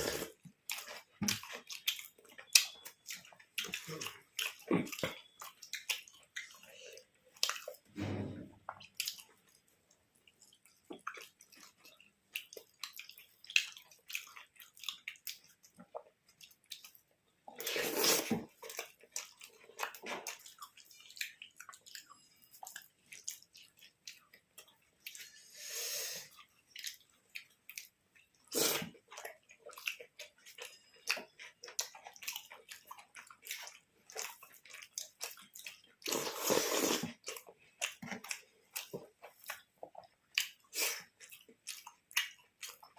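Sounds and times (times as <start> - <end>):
person chewing: 0.0 - 42.9.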